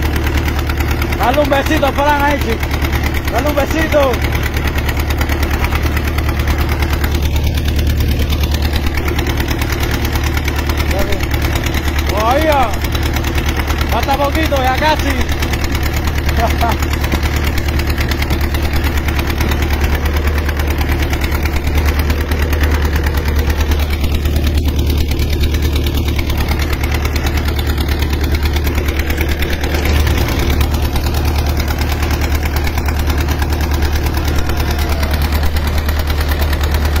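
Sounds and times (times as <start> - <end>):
boat engine droning: 1.2 - 37.0.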